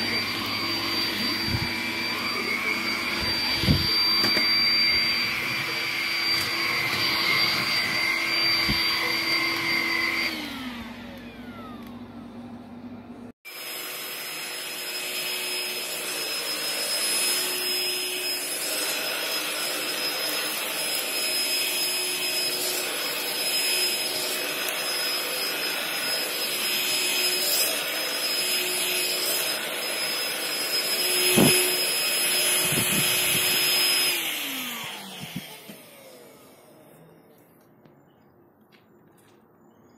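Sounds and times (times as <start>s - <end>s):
vacuum motor whining: 0.0s - 37.7s.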